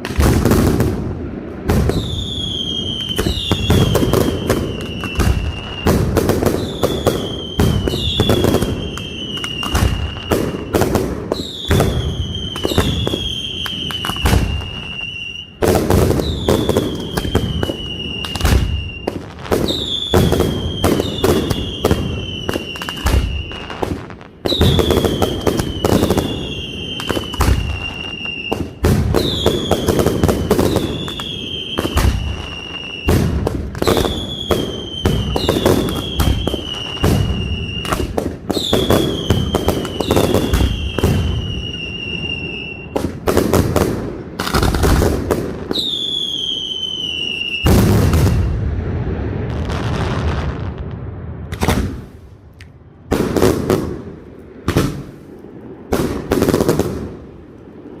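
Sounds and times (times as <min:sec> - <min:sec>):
descending firework whistles: 0:00.0 - 0:54.1
fireworks bangs and crackling: 0:00.0 - 0:58.0.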